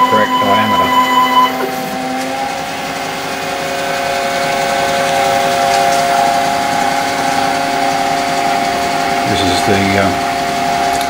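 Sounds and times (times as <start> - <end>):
lathe motors whining: 0.0 - 11.0.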